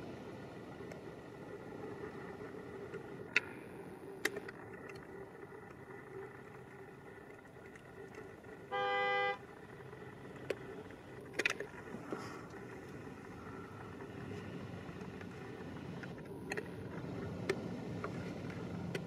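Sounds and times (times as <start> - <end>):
distant jet engine rumble: 0.0 - 19.0.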